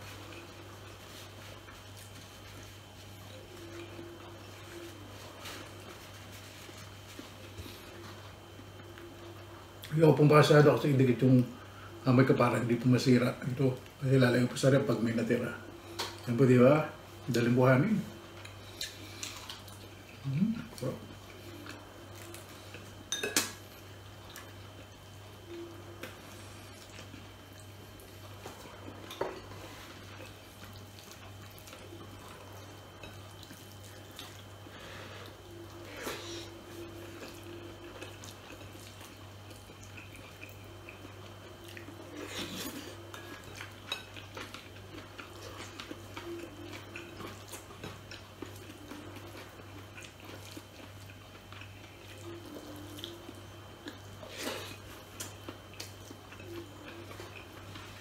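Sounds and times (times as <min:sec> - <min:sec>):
man chewing: 0:00.0 - 0:09.9, 0:18.2 - 0:58.0.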